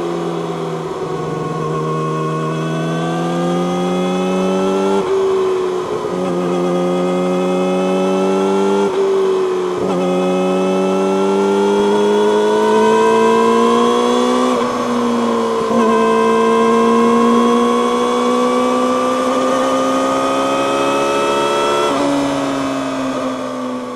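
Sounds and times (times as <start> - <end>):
motorcycle engine accelerating: 0.0 - 23.9.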